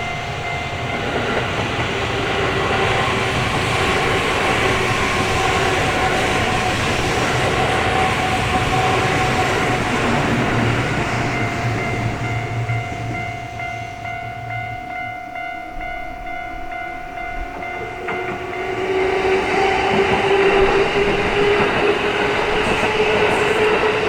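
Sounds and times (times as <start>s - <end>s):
train wheels rumbling and rattling: 0.0s - 14.6s, 16.1s - 24.0s
crossing alarm bell ringing: 0.0s - 24.0s.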